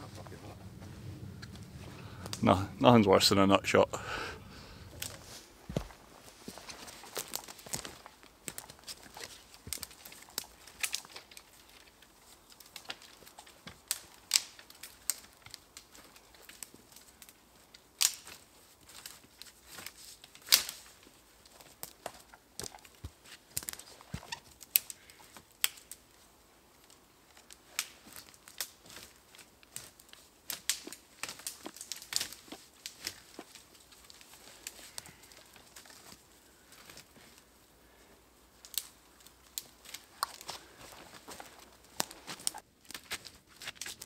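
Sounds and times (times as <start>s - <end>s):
sticks and dry leaves crackling: 0.0s - 44.0s.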